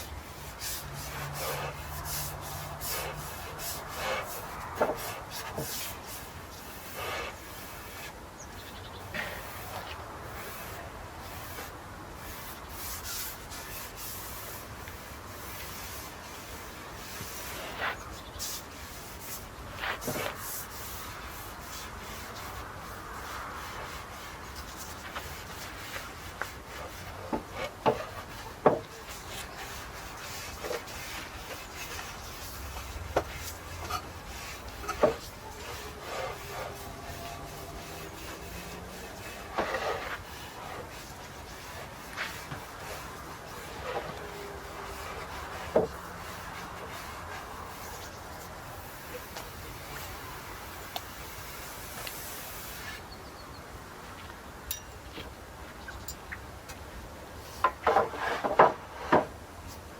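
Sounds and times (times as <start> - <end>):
paintbrush bristles dragging on wood: 0.0 - 53.0, 57.4 - 59.3
brush swishing on wood: 0.0 - 53.1, 57.4 - 59.9.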